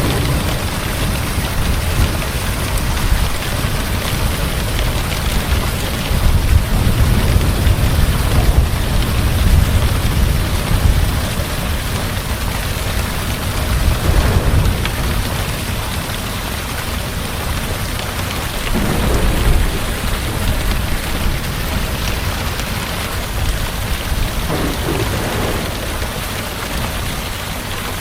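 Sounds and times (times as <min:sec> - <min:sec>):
heavy rain: 0:00.0 - 0:28.0
thunder rolling: 0:00.0 - 0:28.0.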